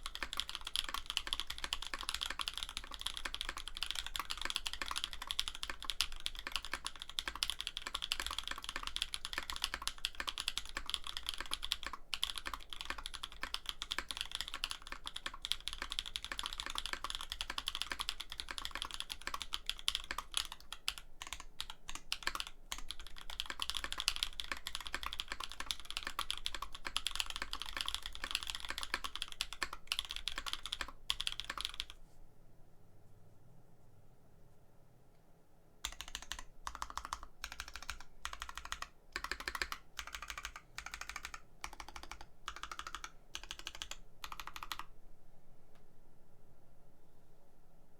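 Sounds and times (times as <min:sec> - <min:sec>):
fast mechanical keyboard typing: 0:00.0 - 0:32.0, 0:35.8 - 0:44.9.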